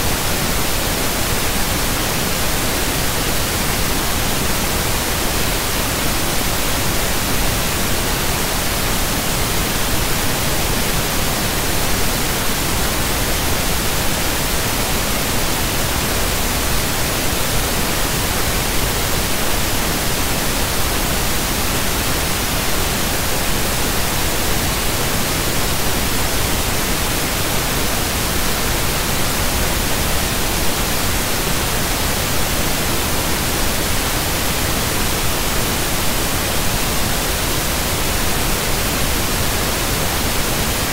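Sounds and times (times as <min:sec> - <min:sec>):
static noise hiss: 0:00.0 - 0:40.9.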